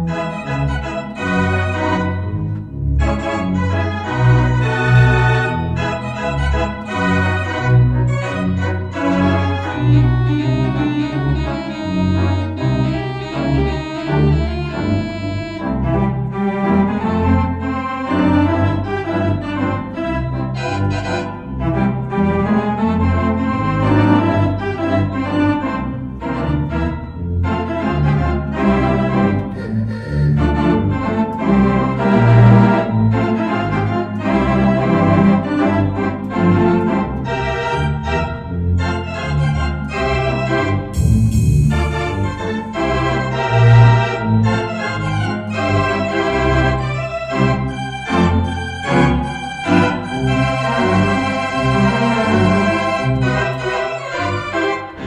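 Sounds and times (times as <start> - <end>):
theatre organ playing chords: 0.0 - 55.0.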